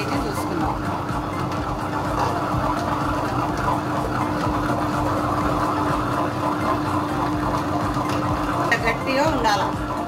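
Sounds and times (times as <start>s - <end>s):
wet grinder motor hum: 0.0s - 10.0s.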